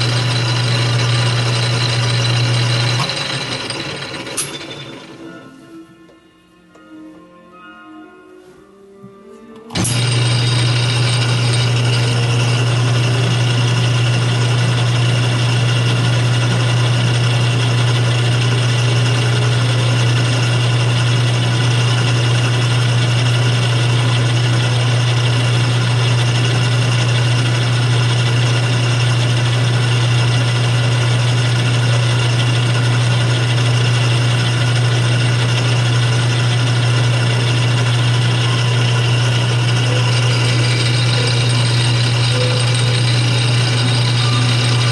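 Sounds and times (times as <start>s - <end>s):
lathe motor humming: 0.0s - 5.8s, 9.7s - 44.9s.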